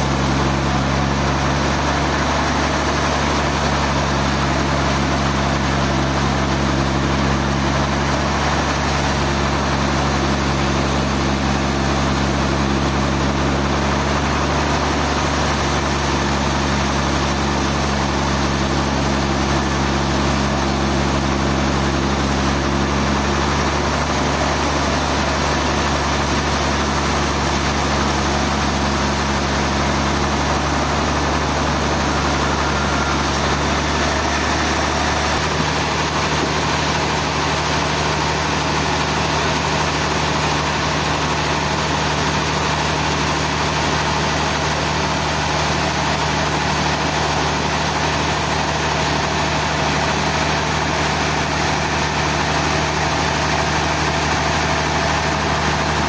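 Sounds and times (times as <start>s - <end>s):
large engine idling: 0.0s - 56.0s.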